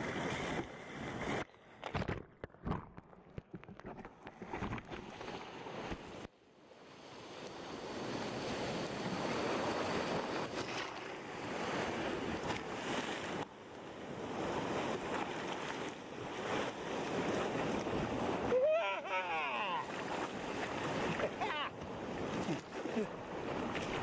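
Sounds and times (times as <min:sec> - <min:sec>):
breaking surf and whitewater: 0:00.0 - 0:01.5, 0:04.4 - 0:24.0.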